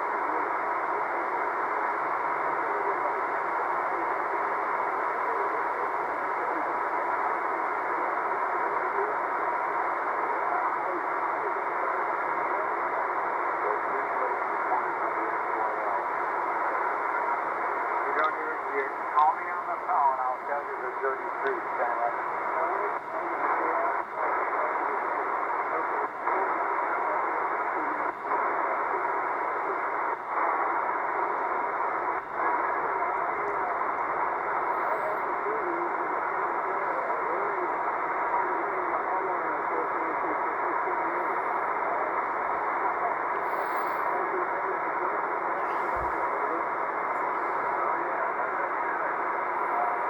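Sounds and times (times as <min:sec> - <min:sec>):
radio band noise hiss: 0:00.0 - 0:50.0
weak radio voice: 0:00.0 - 0:50.0.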